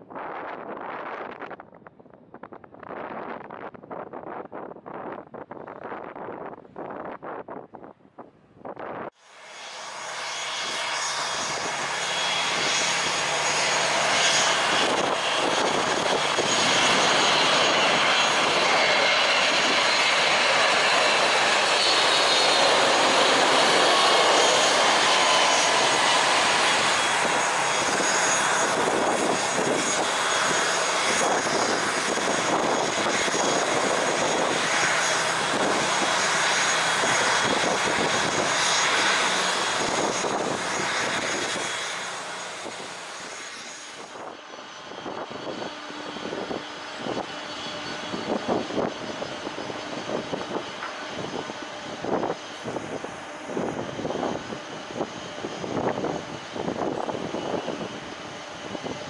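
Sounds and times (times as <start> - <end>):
high jet whine: 8.7 - 59.0
jet engines roaring: 9.1 - 59.0.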